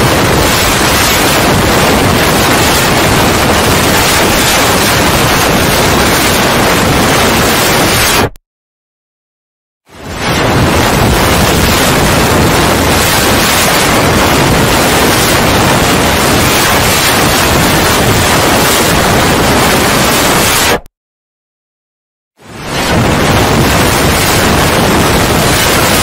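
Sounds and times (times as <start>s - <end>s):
loud harsh static noise: 0.0s - 8.4s, 9.9s - 20.9s, 22.4s - 26.0s.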